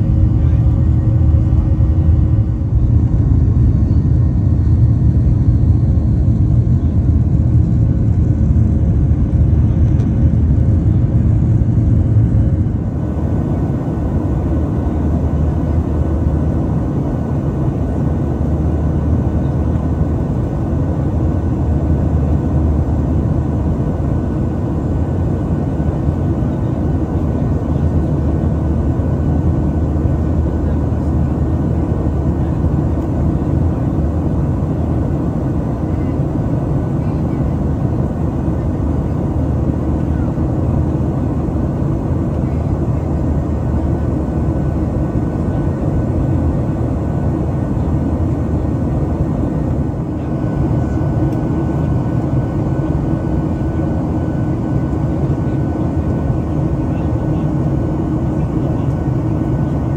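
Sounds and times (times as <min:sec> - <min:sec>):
airplane cabin roar: 0:00.0 - 0:59.9
deep engine rumble: 0:00.0 - 0:59.9.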